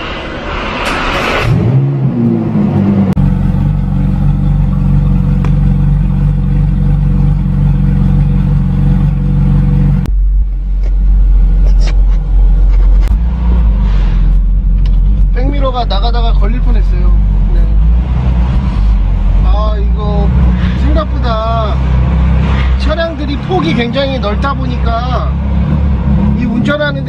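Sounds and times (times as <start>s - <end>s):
car engine idling: 0.9s - 27.0s.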